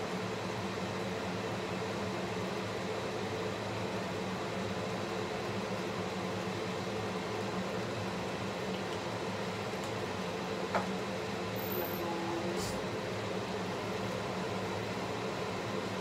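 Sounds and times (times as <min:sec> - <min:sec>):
range hood fan humming: 0:00.0 - 0:16.0.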